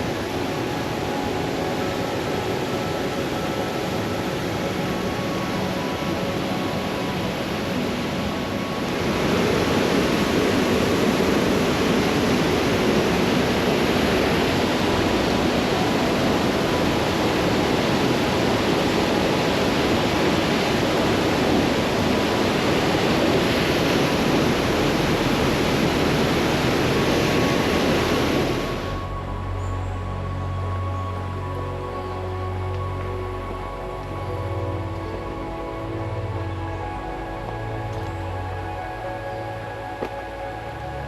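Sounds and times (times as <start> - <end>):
rushing water: 0.0 - 41.0.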